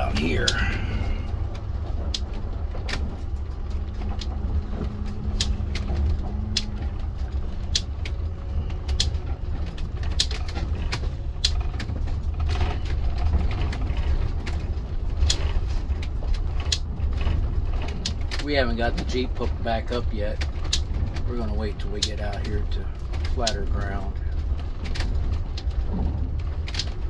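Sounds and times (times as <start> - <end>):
cab clicks and rattles: 0.0 - 27.0
engine and road rumble: 0.0 - 27.0.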